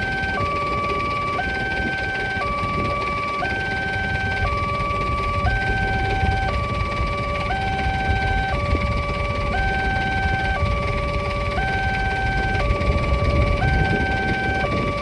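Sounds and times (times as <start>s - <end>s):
level-crossing two-tone alarm: 0.0s - 15.0s
steady high tone: 0.0s - 15.0s.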